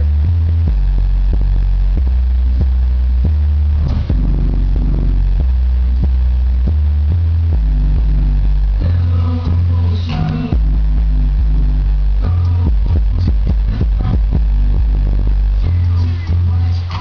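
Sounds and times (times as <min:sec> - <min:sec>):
subwoofers playing deep bass line: 0:00.0 - 0:17.0.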